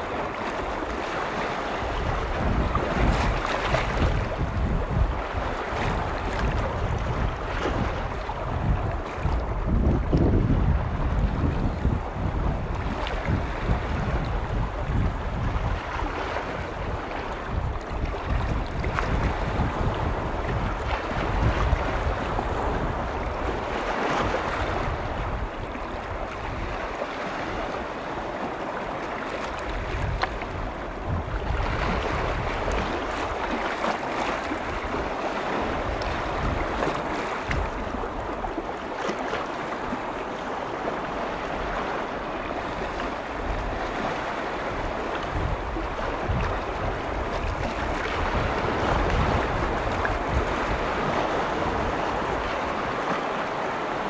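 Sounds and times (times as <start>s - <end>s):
lake waves washing in: 0.0s - 54.0s
wind rumbling on microphone: 0.0s - 54.0s.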